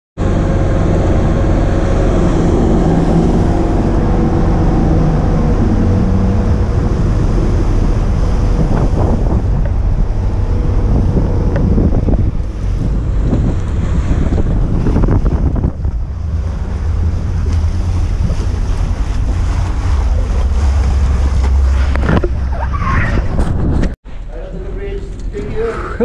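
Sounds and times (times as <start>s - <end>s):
wind buffeting microphone: 0.2s - 25.7s
boat engine droning: 0.2s - 26.0s
water rushing along hull: 0.2s - 26.0s.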